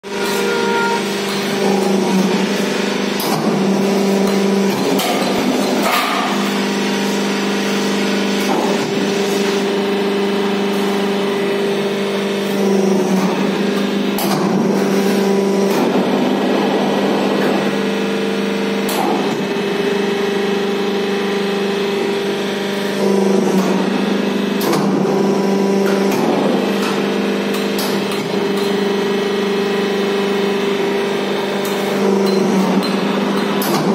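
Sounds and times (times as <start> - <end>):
hydraulic pump motor humming: 0.0 - 33.9.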